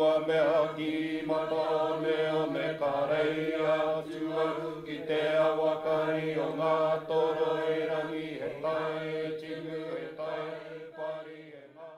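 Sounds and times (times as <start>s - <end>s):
person chanting: 0.0s - 11.9s.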